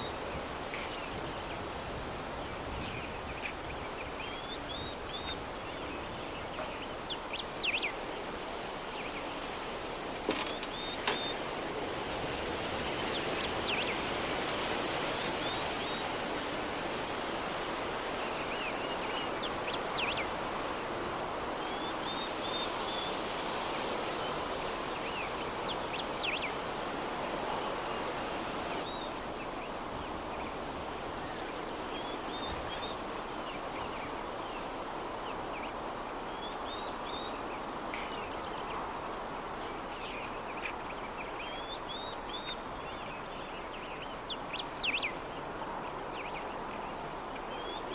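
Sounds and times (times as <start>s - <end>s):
soft breeze: 0.0s - 47.9s.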